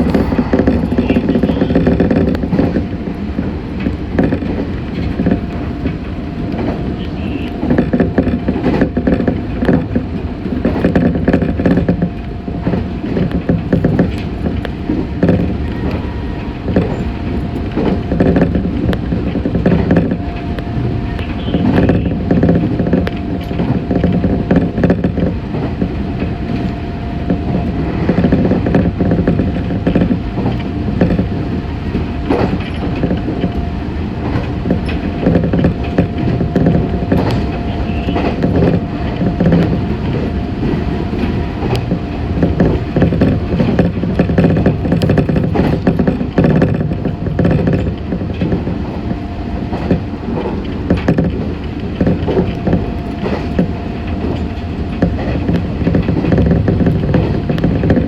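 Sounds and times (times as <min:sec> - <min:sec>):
constant hum: 0:00.0 - 0:58.0
train running rumble: 0:00.0 - 0:58.0
wheels clattering on rail joints: 0:00.0 - 0:58.0.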